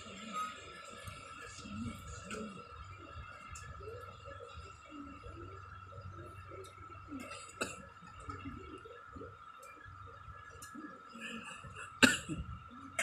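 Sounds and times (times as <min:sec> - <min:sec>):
faint steady high tone: 0:00.0 - 0:11.4.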